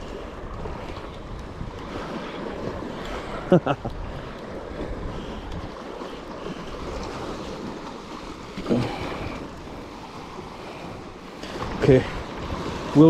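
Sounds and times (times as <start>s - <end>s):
waves against rocky shore: 0.0s - 13.0s
wind buffeting microphone: 0.0s - 13.0s.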